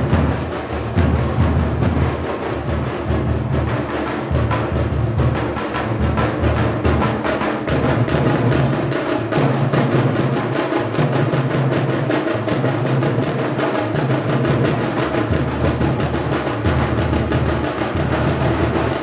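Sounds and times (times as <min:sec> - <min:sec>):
percussion-heavy music: 0:00.0 - 0:19.0.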